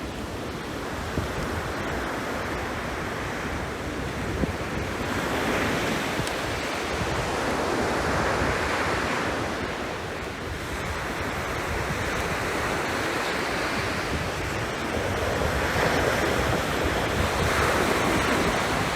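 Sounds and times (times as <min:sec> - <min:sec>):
sea waves breaking on shore: 0:00.0 - 0:18.9
wind: 0:00.0 - 0:18.9.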